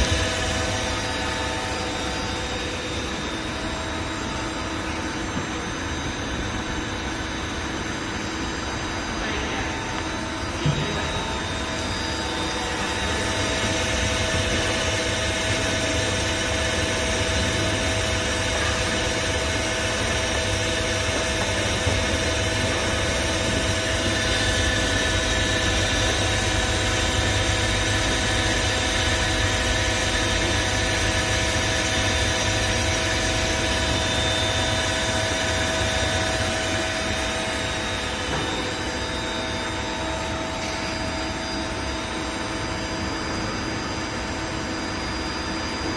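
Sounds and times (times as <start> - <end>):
lathe running with whining tones: 0.0 - 45.9.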